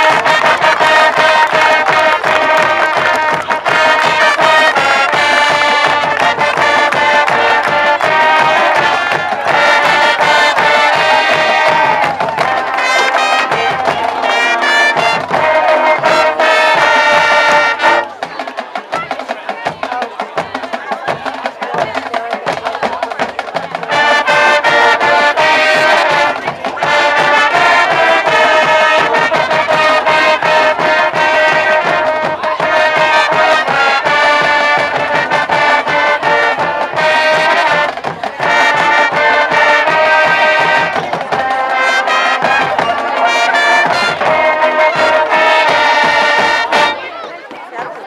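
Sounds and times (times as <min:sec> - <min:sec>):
drum beat: 0:00.0 - 0:48.0
marching band playing: 0:00.0 - 0:48.0.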